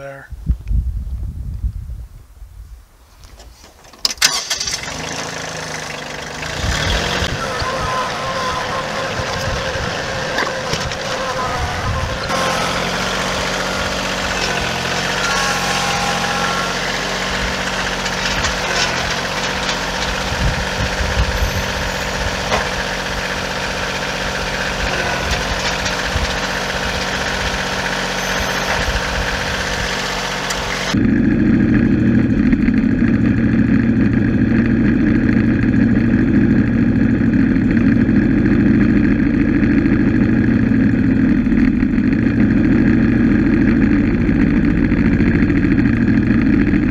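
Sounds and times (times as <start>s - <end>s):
engine running steadily: 3.3s - 46.9s
deep steady drone: 4.2s - 46.9s.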